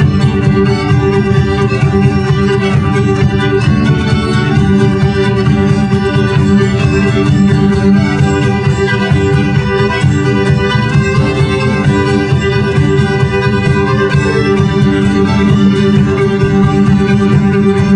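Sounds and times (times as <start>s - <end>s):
folk band with squeezeboxes: 0.0s - 17.9s.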